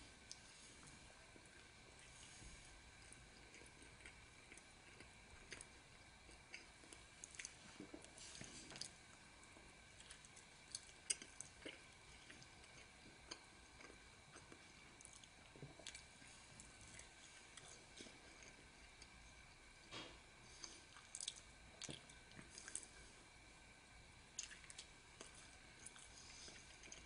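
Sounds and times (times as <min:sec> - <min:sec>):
faint high hum: 0:00.0 - 0:27.0
people chewing food: 0:00.0 - 0:27.0.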